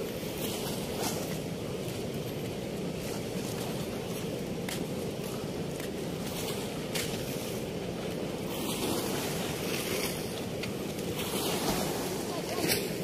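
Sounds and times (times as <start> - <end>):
water rushing through floodgates: 0.0 - 13.0.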